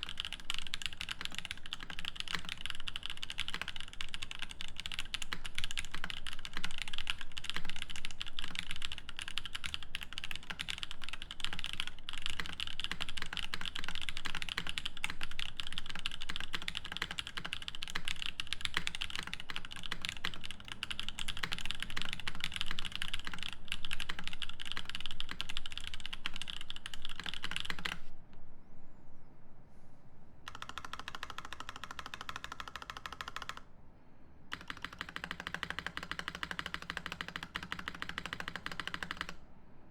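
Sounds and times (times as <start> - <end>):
fast mechanical keyboard typing: 0.0 - 28.1, 30.5 - 33.7, 34.5 - 39.4.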